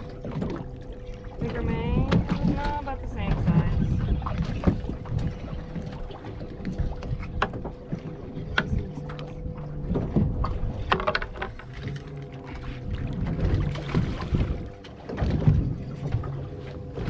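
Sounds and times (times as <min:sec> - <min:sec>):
boat low rumbling: 0:00.0 - 0:17.0
faint steady hum: 0:00.0 - 0:17.0
wind on microphone: 0:01.3 - 0:17.0.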